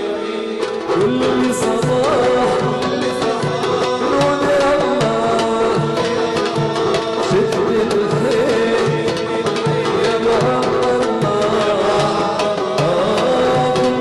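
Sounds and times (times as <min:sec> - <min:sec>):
drum beating steady rhythm: 0:00.0 - 0:14.0
held folk melody: 0:00.0 - 0:14.0.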